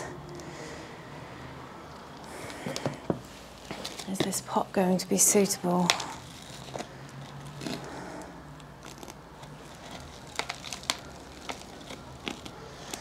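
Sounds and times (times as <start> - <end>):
soil and plastic pot rustling: 2.1 - 13.0.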